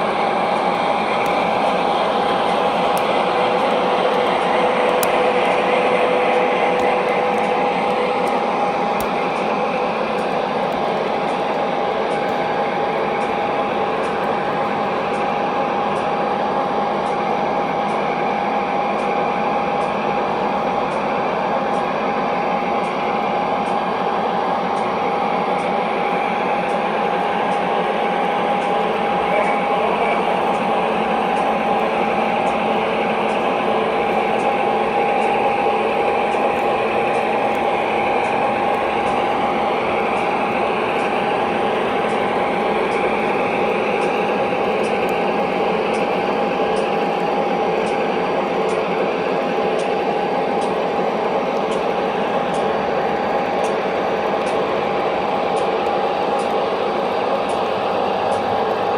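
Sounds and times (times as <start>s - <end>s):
model train motors whirring: 0.0s - 58.9s.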